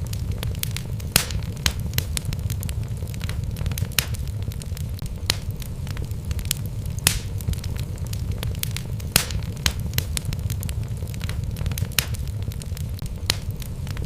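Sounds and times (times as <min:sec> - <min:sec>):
burning wood crackling: 0:00.0 - 0:14.0
fireplace flames rumbling: 0:00.0 - 0:14.0.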